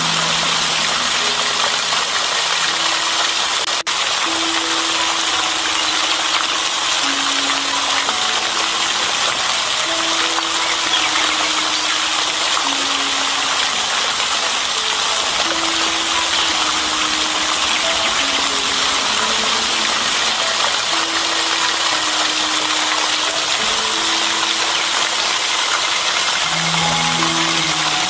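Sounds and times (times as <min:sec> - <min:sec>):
fountain spray splashing on water: 0:00.0 - 0:28.0
soft slow melody: 0:00.0 - 0:28.0.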